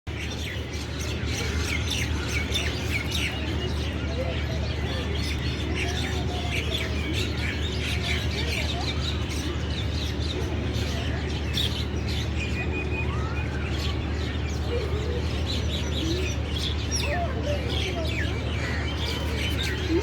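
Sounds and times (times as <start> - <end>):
small birds twittering: 0.1 - 20.0.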